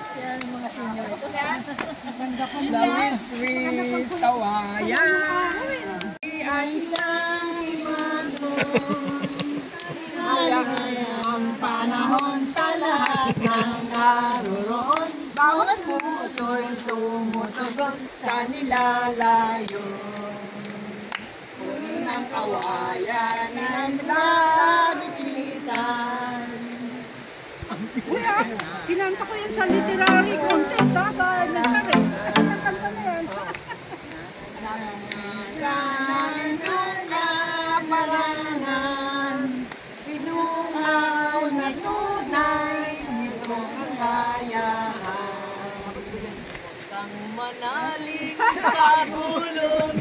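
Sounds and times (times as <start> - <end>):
high hiss: 0.0 - 50.0
women singing together: 0.0 - 50.0.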